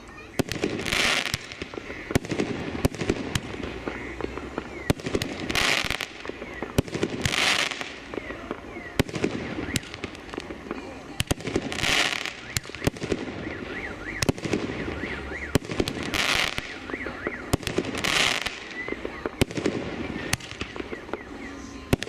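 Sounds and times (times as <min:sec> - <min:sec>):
dense firework crackling: 0:00.0 - 0:22.0.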